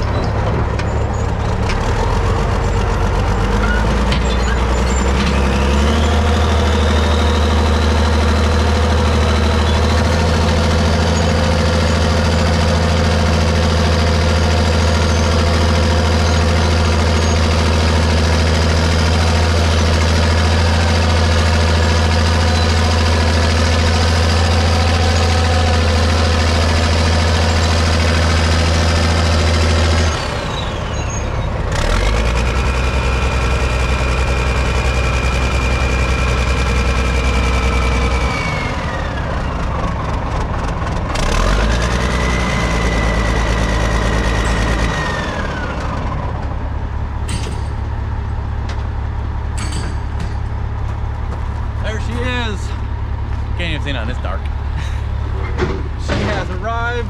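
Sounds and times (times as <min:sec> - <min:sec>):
diesel engine revving: 0:00.0 - 0:57.0
steady engine hum: 0:00.0 - 0:57.0.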